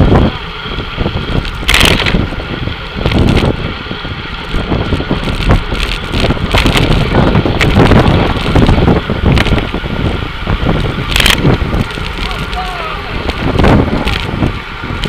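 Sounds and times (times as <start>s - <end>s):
wind buffeting microphone: 0.0s - 15.0s
bike knocks and rattles: 1.1s - 3.7s, 4.3s - 15.0s.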